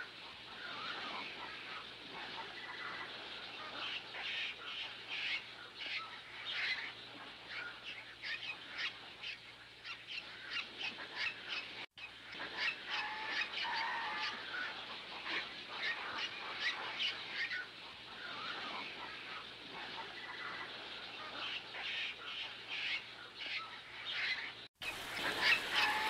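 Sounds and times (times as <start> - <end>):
geese and ducks calling: 0.0 - 26.0.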